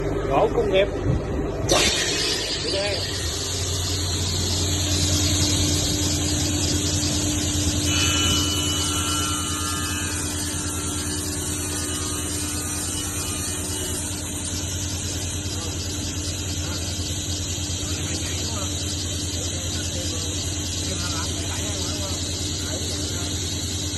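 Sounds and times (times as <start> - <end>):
thin high whine: 1.6 - 23.9
table saw running: 1.7 - 23.9.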